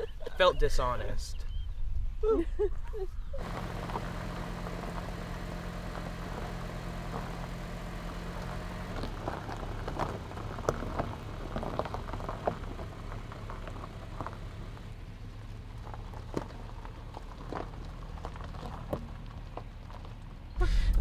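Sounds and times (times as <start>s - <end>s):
car engine hum: 3.3s - 21.0s
tyres crunching over gravel: 3.4s - 20.6s.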